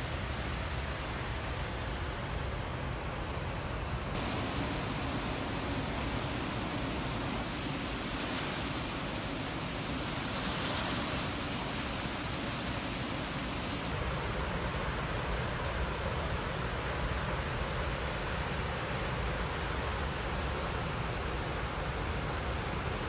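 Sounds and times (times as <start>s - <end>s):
floodwater rushing through spillway: 0.0s - 23.0s.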